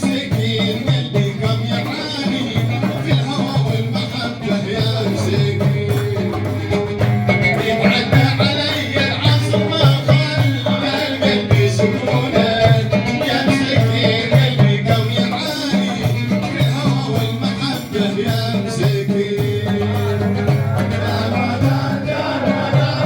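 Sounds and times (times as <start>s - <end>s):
hand percussion: 0.0s - 23.0s
instrumental folk melody: 0.0s - 23.0s.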